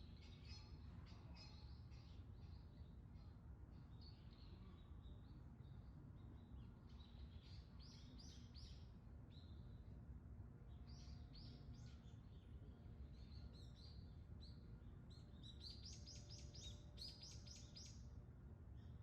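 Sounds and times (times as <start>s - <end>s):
songbird chirps: 0.0s - 9.8s, 10.7s - 19.0s.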